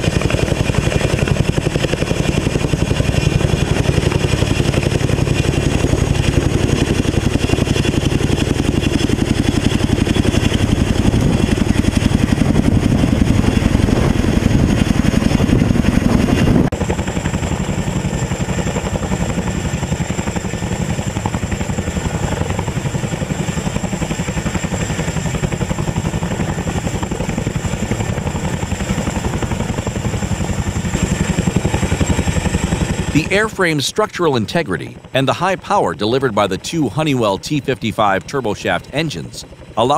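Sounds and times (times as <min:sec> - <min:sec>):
helicopter rotor beat: 0:00.0 - 0:39.9
turbine engine whine: 0:00.0 - 0:39.9.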